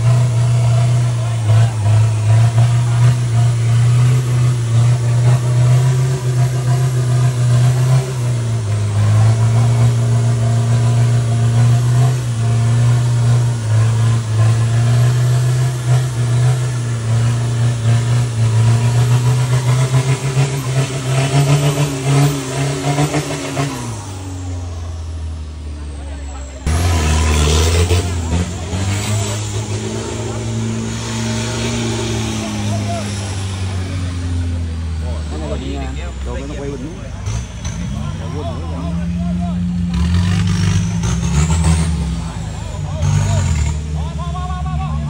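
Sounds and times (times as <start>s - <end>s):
truck engine running under load: 0.0s - 45.0s.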